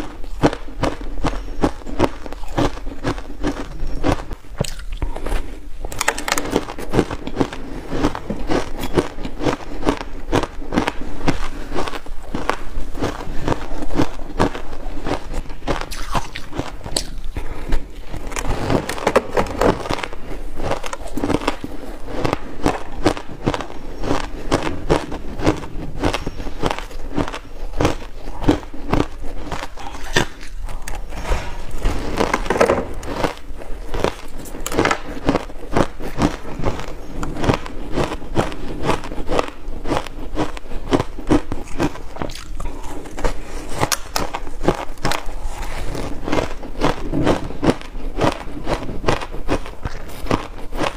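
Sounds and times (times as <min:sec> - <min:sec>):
person chewing crunchy ice: 0:00.0 - 0:50.9.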